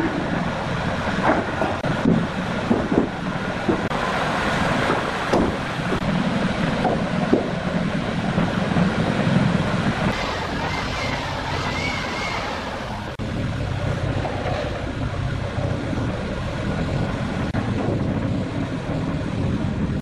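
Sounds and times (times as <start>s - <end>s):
machine running noise: 0.0s - 20.0s.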